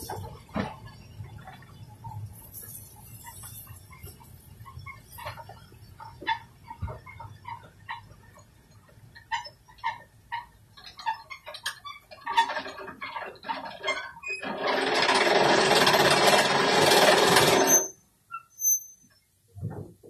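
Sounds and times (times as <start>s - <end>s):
train rattling with clicking knocks: 0.0s - 18.0s.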